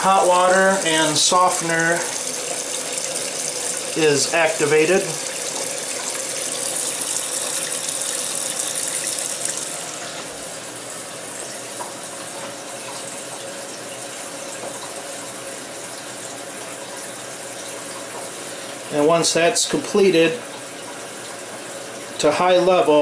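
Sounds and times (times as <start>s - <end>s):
water rushing into washing machine: 0.0s - 23.0s.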